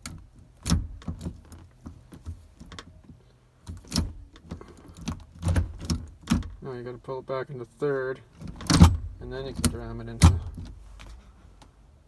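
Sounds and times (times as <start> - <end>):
shifter lever clicks and clunks: 0.0 - 6.6, 8.2 - 11.8.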